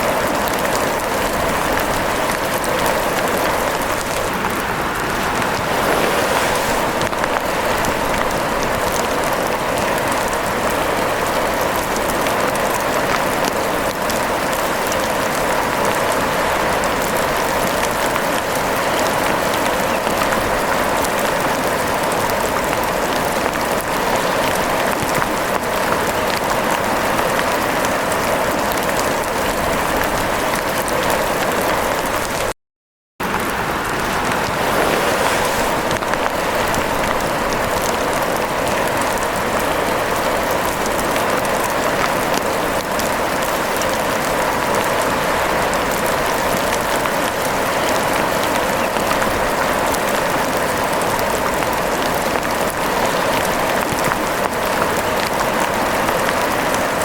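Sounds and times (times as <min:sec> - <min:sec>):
rain falling: 0:00.0 - 0:32.5, 0:33.2 - 0:57.0.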